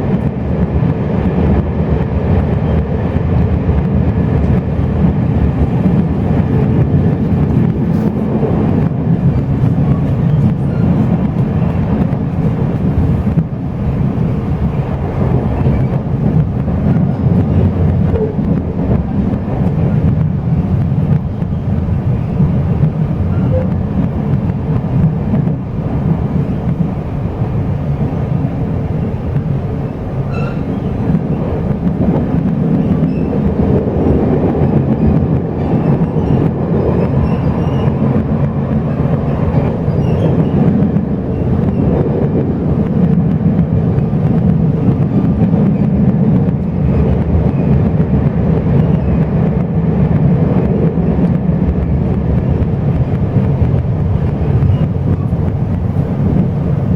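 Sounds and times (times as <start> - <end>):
train rumbling inside carriage: 0.0 - 56.9.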